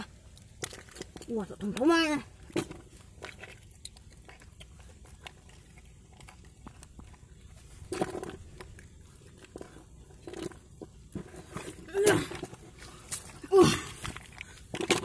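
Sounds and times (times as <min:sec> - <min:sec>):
snail shells clicking: 0:00.0 - 0:15.0.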